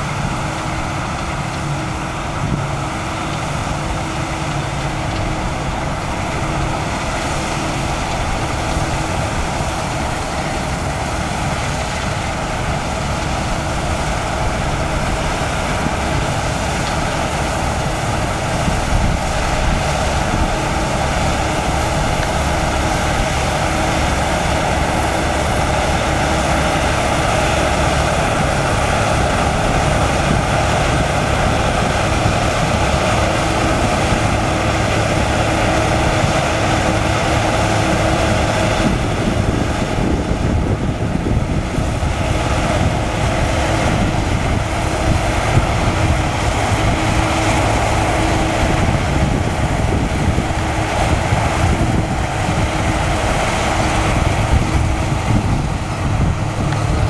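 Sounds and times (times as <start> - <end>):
combine harvester engine droning: 0.0 - 57.0.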